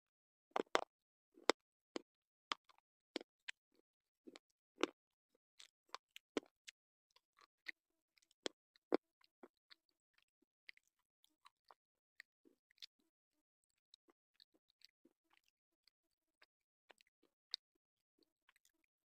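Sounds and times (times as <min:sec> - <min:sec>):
slate pencil being chewed: 0:00.6 - 0:05.0, 0:05.6 - 0:13.1, 0:13.7 - 0:18.9.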